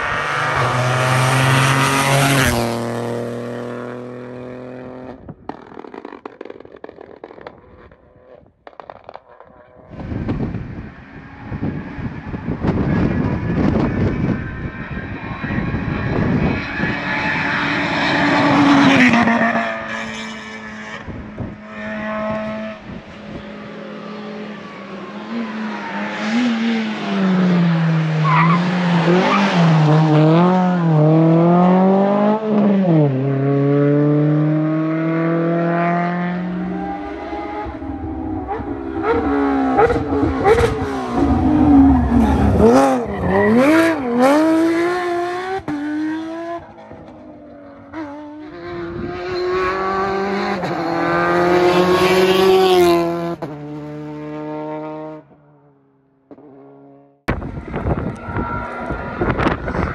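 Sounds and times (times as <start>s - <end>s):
rally car engines revving: 0.0s - 55.3s, 56.3s - 59.9s.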